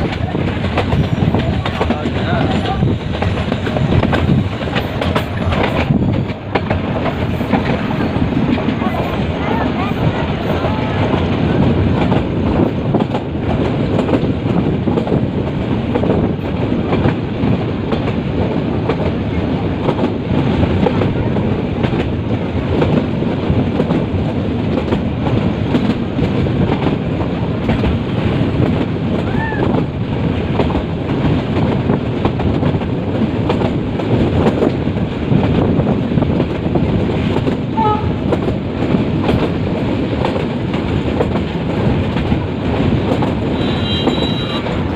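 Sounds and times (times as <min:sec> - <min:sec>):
train rumble: 0:00.0 - 0:44.9
wheels clacking over rail joints: 0:00.0 - 0:44.9.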